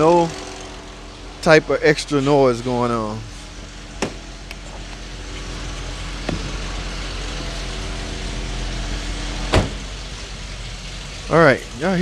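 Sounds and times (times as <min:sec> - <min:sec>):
car engine idling with ticking: 0:00.0 - 0:12.0.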